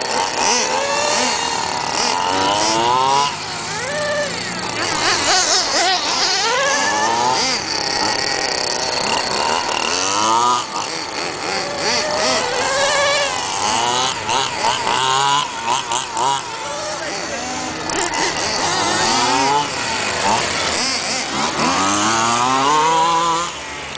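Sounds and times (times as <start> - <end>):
small two-stroke engines revving: 0.0 - 23.9.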